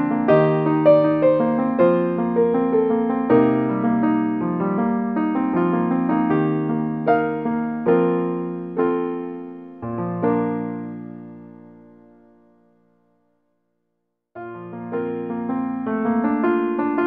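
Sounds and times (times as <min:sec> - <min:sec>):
slow piano melody: 0:00.0 - 0:13.5, 0:14.4 - 0:17.0.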